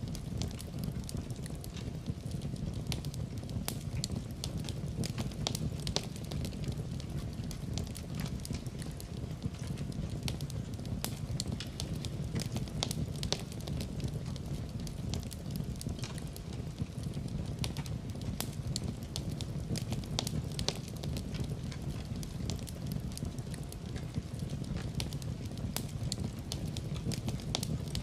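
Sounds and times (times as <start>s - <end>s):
fire low rumble: 0.0s - 28.0s
wood fire crackling and popping: 0.0s - 28.0s.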